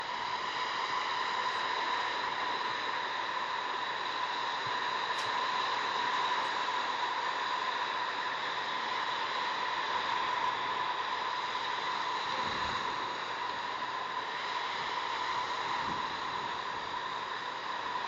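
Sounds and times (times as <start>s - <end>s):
faint high whine: 0.0s - 18.0s
steady microphone hiss: 0.0s - 18.0s.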